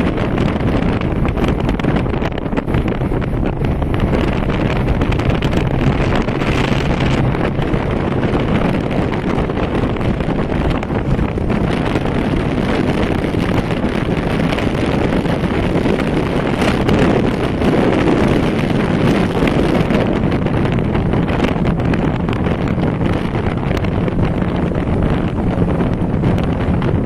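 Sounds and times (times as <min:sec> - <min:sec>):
outboard motors droning: 0:00.0 - 0:27.0
wind buffeting microphone: 0:00.0 - 0:27.0.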